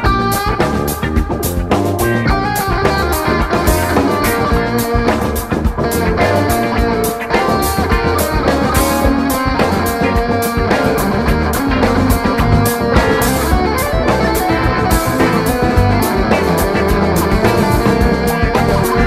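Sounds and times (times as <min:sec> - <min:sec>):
backing track with drums and bass: 0:00.0 - 0:19.0
electric guitar lead: 0:00.0 - 0:19.0.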